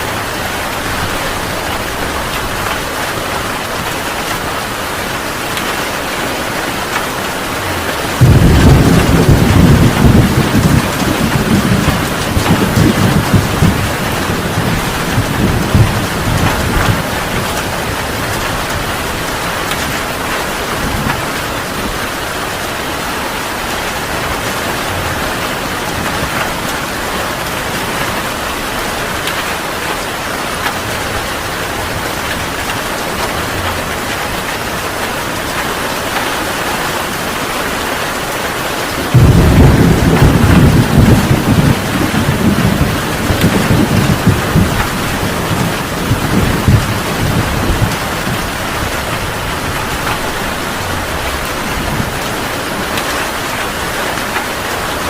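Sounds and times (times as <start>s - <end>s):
thunder rumbling: 0.0s - 36.2s, 38.9s - 55.0s
heavy rain pouring: 0.0s - 55.0s.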